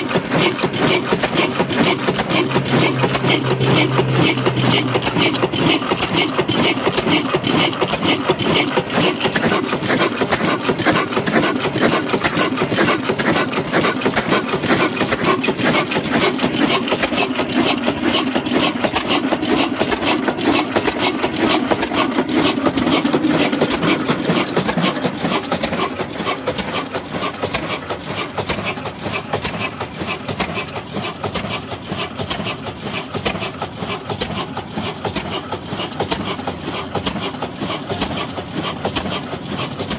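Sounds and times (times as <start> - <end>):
diesel engine clattering: 0.0 - 39.9.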